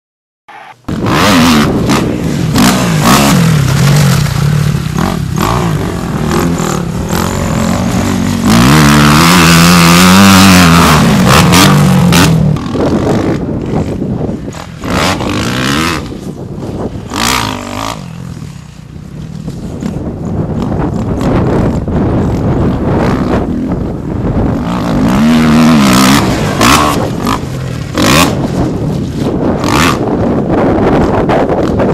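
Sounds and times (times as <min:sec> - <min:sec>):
dirt bike engine revving: 0:00.5 - 0:31.9.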